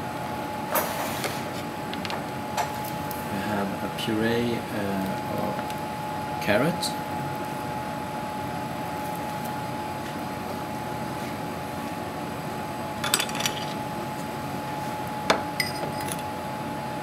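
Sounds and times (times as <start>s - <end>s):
kitchen background hum: 0.0s - 17.0s
thin steady whine: 0.0s - 17.0s.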